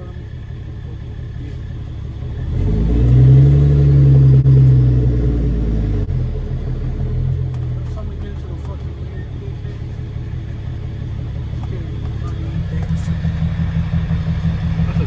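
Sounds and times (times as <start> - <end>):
diesel truck engine under throttle: 0.0 - 15.0.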